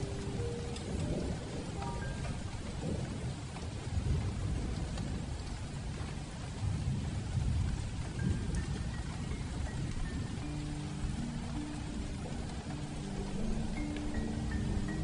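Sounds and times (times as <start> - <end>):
heavy rain on a metal roof: 0.0 - 15.0
low rolling thunder: 0.0 - 15.0.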